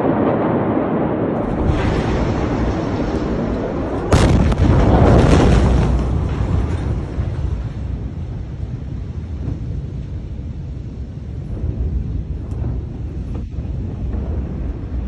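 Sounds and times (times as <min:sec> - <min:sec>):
deep rumble: 0:00.0 - 0:15.0
explosion blast: 0:00.0 - 0:15.0.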